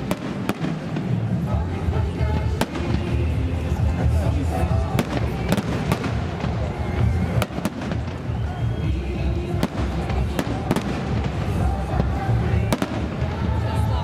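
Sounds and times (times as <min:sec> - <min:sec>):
fireworks cracking: 0:00.0 - 0:14.0
music: 0:00.0 - 0:14.0
voices: 0:00.0 - 0:14.0.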